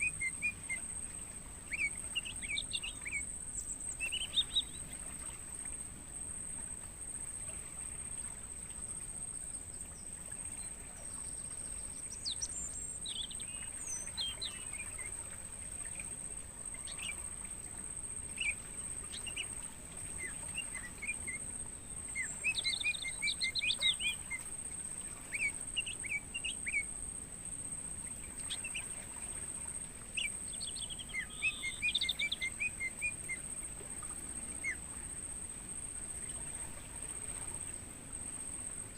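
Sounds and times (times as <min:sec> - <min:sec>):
crickets trilling: 0:00.0 - 0:38.9
songbirds chirping: 0:00.0 - 0:38.9.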